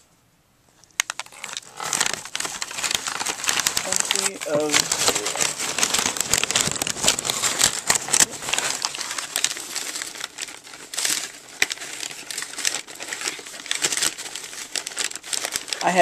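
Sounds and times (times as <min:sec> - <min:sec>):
newspaper rustling and crinkling: 0:00.8 - 0:16.0.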